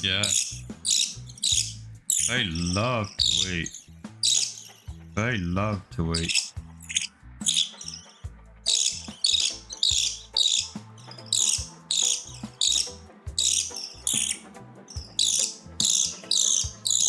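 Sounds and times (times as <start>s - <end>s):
budgerigar chicks begging chirps: 0.0s - 5.0s, 6.1s - 17.0s.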